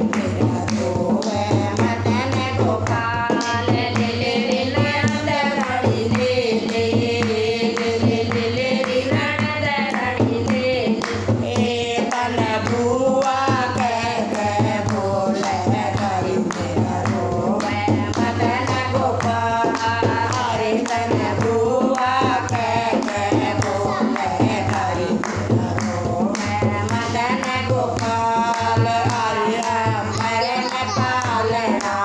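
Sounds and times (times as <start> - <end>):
hand clapping: 0.0 - 32.0
hand drum beat: 0.0 - 32.0
women singing devotional song: 0.0 - 32.0.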